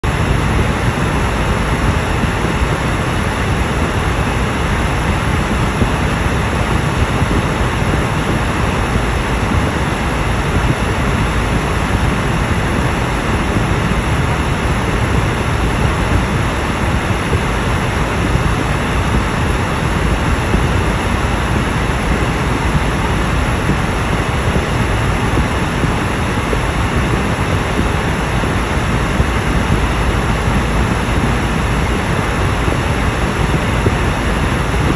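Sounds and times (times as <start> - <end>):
car road noise rumble: 0.0 - 34.9.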